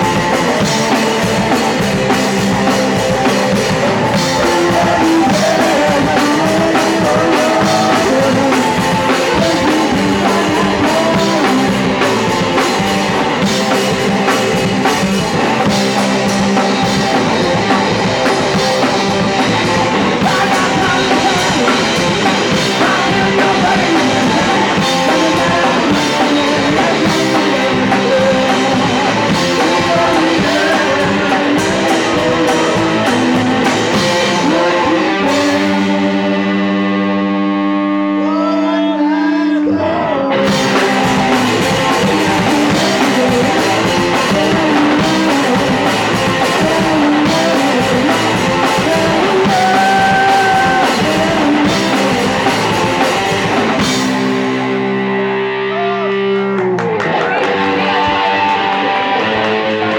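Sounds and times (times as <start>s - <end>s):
shouted singing: 0.0s - 14.6s, 16.9s - 36.3s, 38.2s - 54.0s
drum kit: 0.0s - 37.3s, 40.4s - 59.9s
bass guitar: 0.0s - 59.9s
distorted electric guitar: 0.0s - 59.9s.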